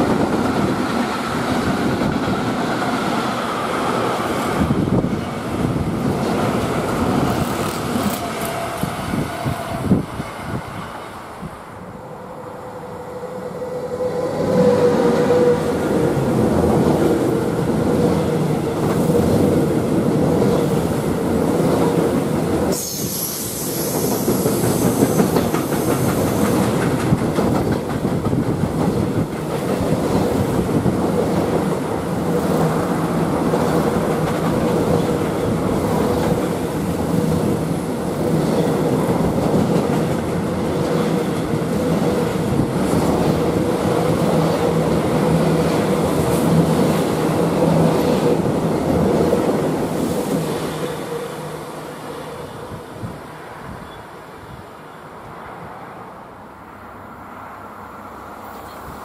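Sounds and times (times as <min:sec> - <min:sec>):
freight train wheels rumbling: 0:00.0 - 0:54.6.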